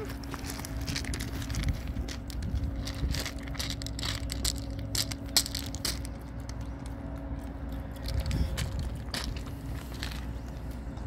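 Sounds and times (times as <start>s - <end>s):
footsteps crunching on gravel: 0.0s - 11.0s
steady low hum: 0.0s - 11.0s.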